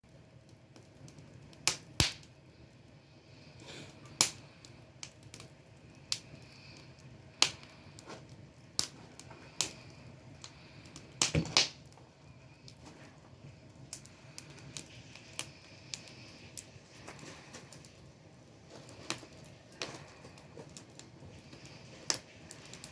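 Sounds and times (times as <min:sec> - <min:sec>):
campfire crackling and popping: 0:00.1 - 0:22.9.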